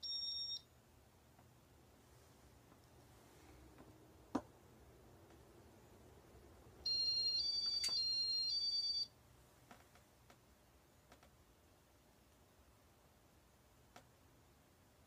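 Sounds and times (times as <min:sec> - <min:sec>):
ceiling fan hum: 0:00.0 - 0:15.0.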